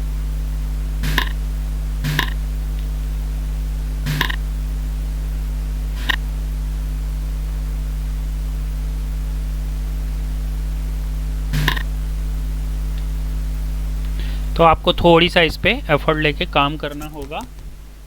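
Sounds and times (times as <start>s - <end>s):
background hiss: 0.0s - 18.0s
electrical mains hum: 0.0s - 18.0s.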